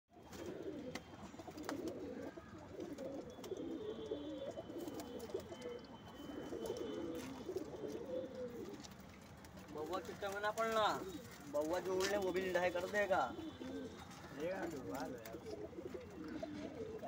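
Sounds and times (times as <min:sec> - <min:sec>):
pigeons cooing: 0:00.2 - 0:17.0.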